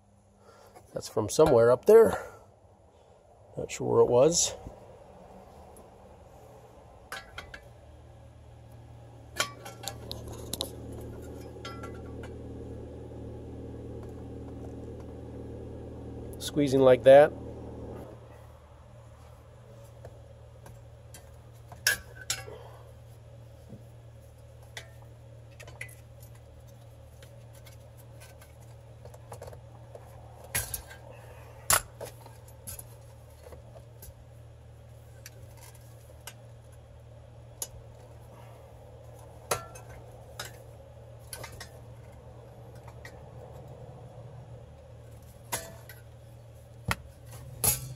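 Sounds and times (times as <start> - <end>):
faint low hum: 0.0 - 47.9.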